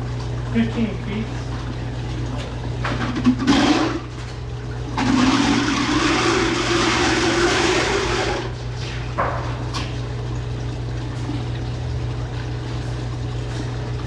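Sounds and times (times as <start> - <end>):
water rushing down a drain: 0.0 - 14.0.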